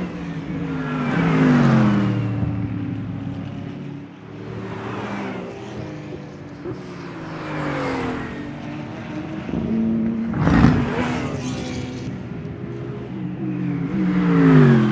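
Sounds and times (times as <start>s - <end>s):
race cars passing at speed: 0.0s - 14.9s.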